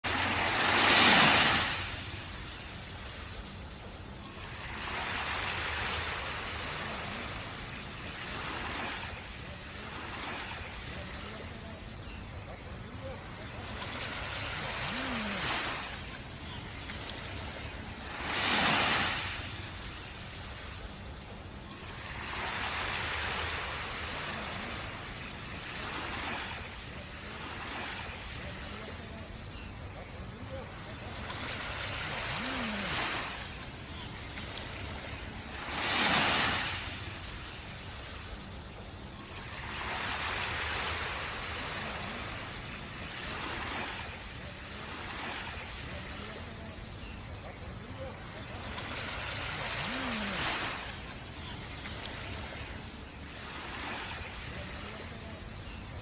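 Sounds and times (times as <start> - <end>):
ocean waves washing on beach: 0.0 - 56.0.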